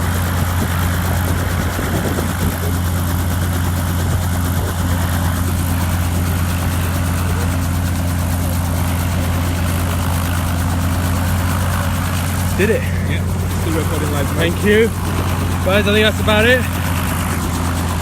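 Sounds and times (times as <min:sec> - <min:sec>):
helicopter droning: 0:00.0 - 0:18.0.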